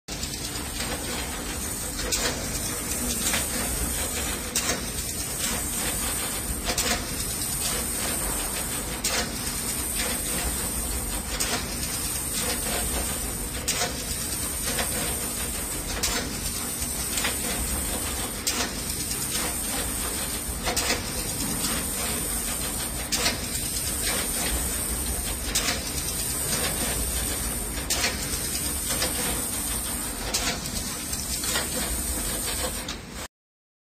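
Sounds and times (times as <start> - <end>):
insertion machine hissing: 0.1 - 33.2.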